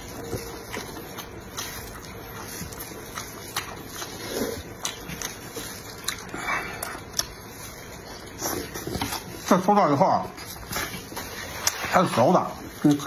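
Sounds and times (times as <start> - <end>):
biting and chewing: 0.0 - 13.0.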